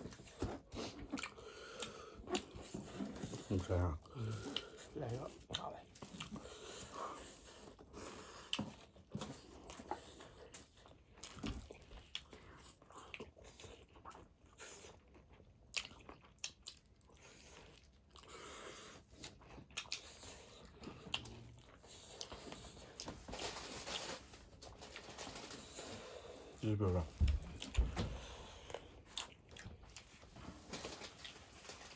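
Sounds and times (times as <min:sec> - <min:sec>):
chewing and crunching: 0:00.0 - 0:31.9.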